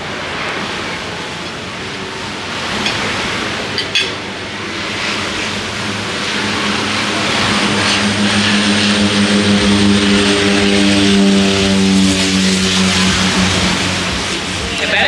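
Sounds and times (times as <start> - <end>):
aircraft engines humming: 0.0 - 15.0.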